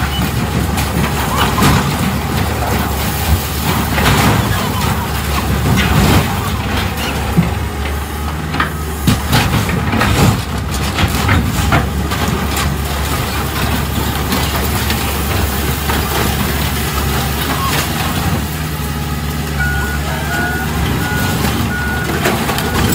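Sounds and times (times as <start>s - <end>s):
sheet metal crunching and creaking: 0.0s - 18.4s
diesel excavator engine running: 0.0s - 22.9s.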